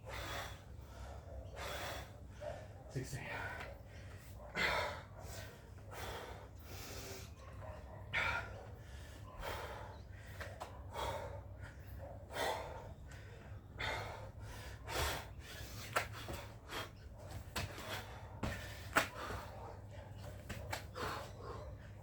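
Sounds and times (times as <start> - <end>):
person panting heavily: 0.0 - 7.4, 8.1 - 19.9, 20.8 - 22.0.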